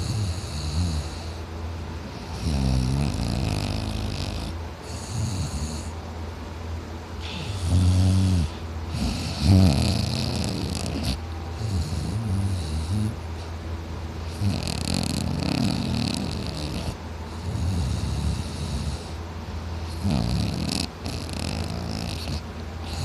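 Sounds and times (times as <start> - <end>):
man snoring loudly: 0.0 - 1.4, 2.3 - 5.9, 7.2 - 13.2, 14.3 - 19.2, 19.9 - 23.0.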